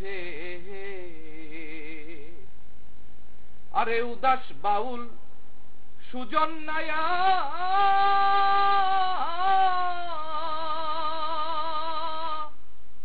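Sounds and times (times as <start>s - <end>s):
man singing unaccompanied: 0.0s - 2.5s, 3.7s - 5.4s, 6.0s - 12.6s.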